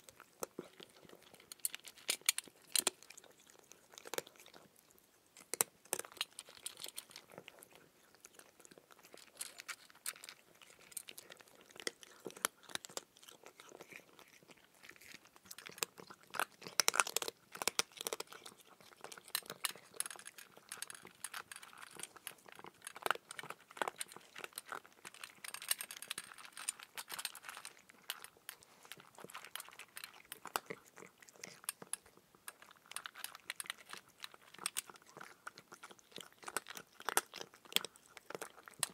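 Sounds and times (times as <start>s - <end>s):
person chewing cucumber: 0.0s - 38.9s.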